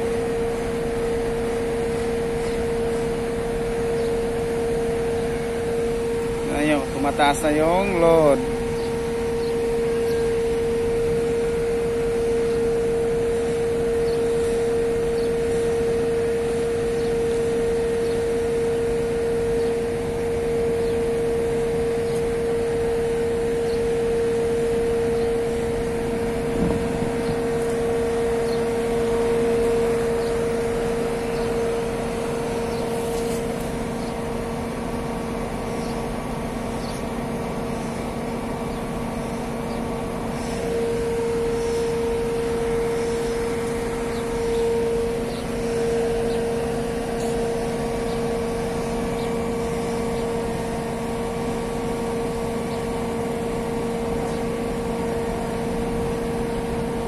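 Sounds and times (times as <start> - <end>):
crane machine hum: 0.0 - 57.0
high engine whine: 0.0 - 57.0.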